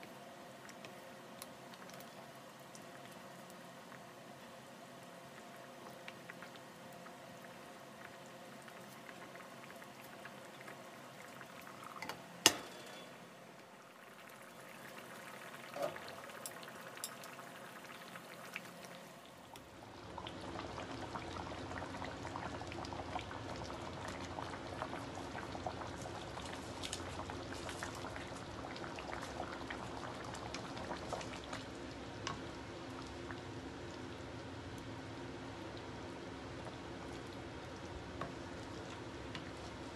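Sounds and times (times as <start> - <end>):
sauce bubbling in a pan: 0.0 - 12.4, 13.2 - 39.9.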